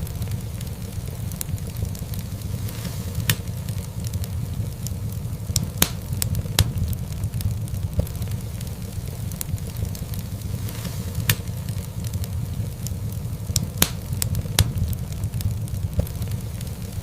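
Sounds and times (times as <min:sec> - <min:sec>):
low rumble of flames: 0:00.0 - 0:17.0
sharp pops of fire: 0:00.0 - 0:17.0
wood fire crackling: 0:00.0 - 0:17.0.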